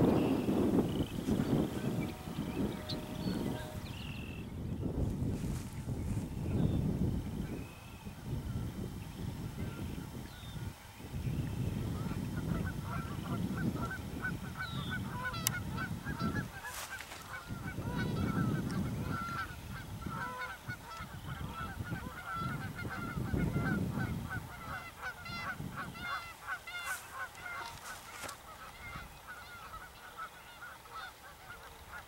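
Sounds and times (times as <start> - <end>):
wind rumbling on microphone: 0.0 - 29.9
geese honking: 0.0 - 32.0.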